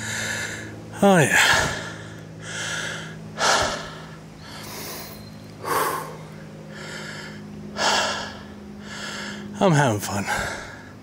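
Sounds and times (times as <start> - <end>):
person breathing hard: 0.0 - 9.6, 10.2 - 11.0.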